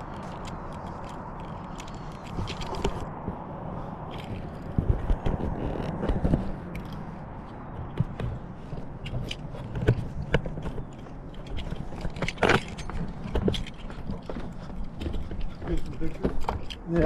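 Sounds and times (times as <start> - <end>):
footsteps on trail: 0.0 - 17.0.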